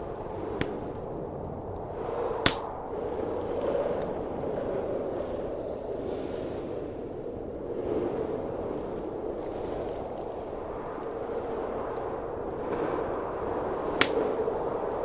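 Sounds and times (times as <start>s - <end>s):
blizzard wind: 0.0s - 15.0s
wood fire crackling: 0.0s - 15.0s.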